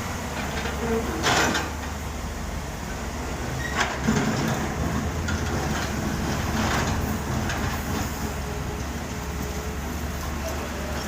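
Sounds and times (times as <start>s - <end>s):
diesel machinery running: 0.0s - 11.0s.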